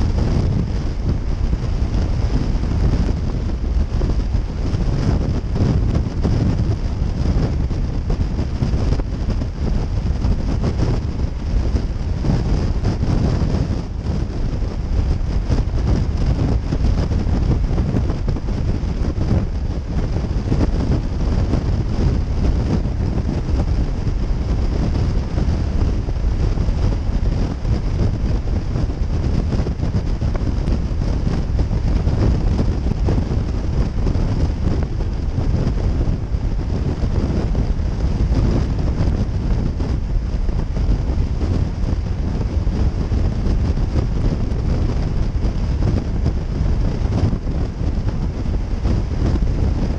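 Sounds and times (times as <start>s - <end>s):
road noise: 0.0s - 49.9s
wind buffeting microphone: 0.0s - 49.9s.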